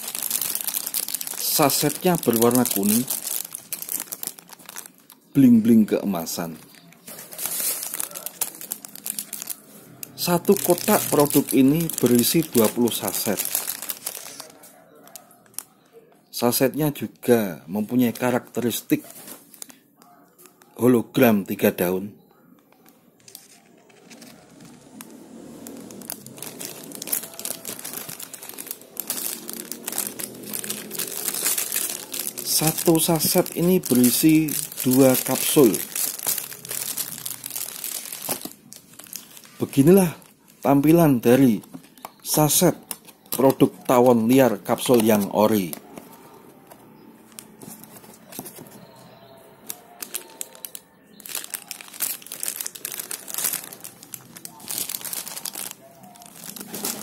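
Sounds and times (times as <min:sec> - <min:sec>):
plastic sachets crinkling: 0:00.0 - 0:15.8, 0:17.8 - 0:19.8, 0:22.8 - 0:48.8, 0:49.6 - 0:57.0.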